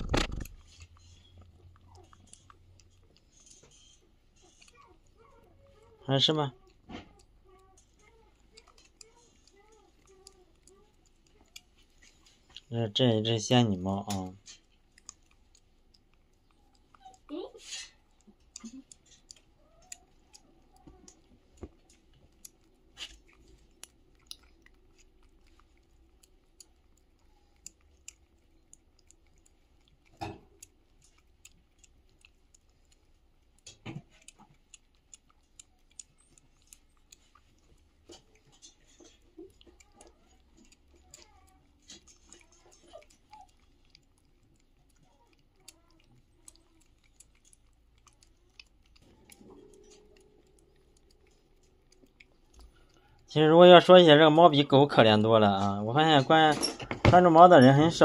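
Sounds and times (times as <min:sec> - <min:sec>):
cats eating wet food: 0:00.0 - 0:58.0.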